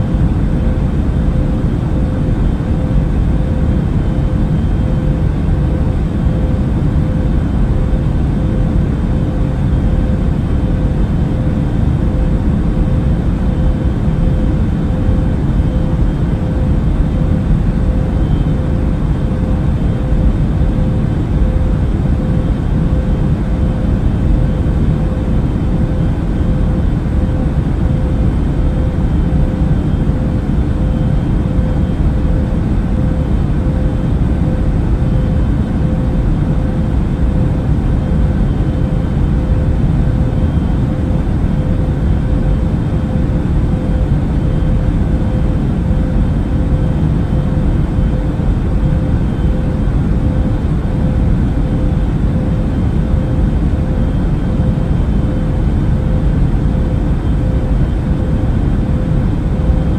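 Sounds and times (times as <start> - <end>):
airplane cabin rumble: 0.0 - 59.9
constant hum: 0.0 - 59.9.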